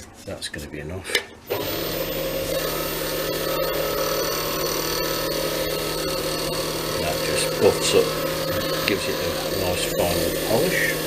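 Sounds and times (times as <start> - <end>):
wood lathe motor hum: 1.5 - 11.0.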